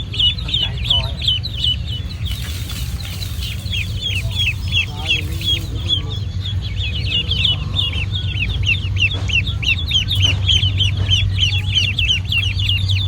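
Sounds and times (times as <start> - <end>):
ducklings peeping: 0.0 - 13.0
steady low hum: 0.0 - 13.0.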